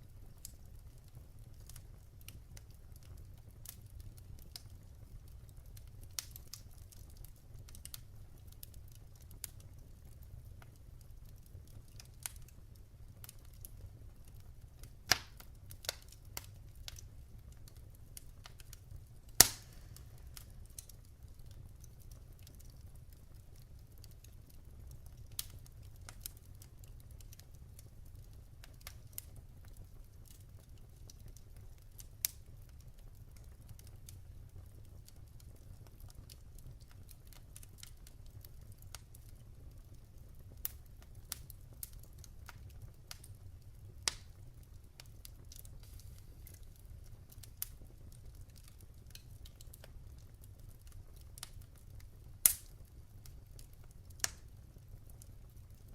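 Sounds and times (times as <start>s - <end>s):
logs crackling in fireplace: 0.0s - 55.9s
low steady fire rumble: 0.0s - 55.9s.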